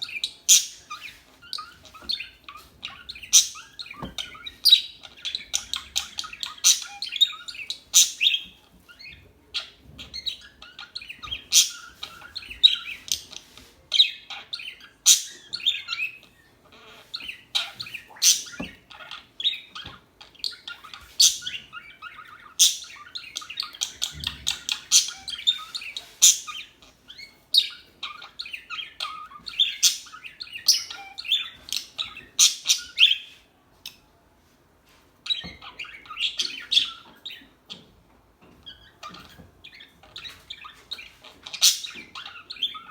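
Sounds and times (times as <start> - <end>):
budgerigars chirping: 0.0 - 34.0, 35.3 - 37.9, 38.5 - 42.9.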